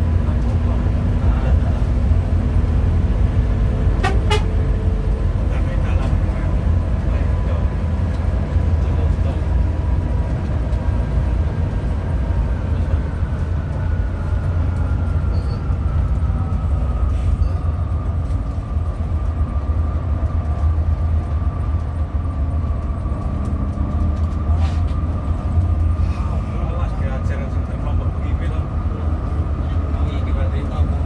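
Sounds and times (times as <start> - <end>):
coach engine and road noise: 0.0 - 31.0.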